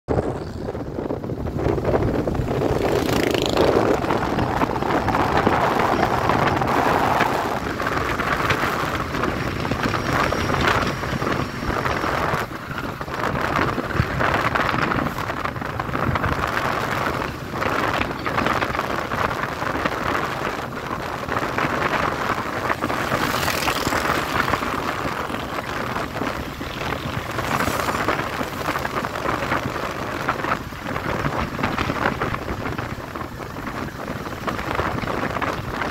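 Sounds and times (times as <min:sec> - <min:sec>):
motorcycle engine running: 0:00.1 - 0:35.9
road noise: 0:00.1 - 0:35.9
wind rushing over microphone: 0:00.1 - 0:35.9.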